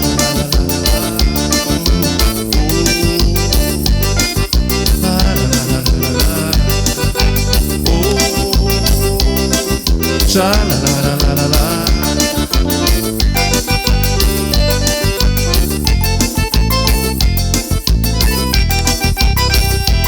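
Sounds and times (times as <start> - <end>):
accordion melody: 0.0 - 20.0
steady dance beat: 0.0 - 20.0.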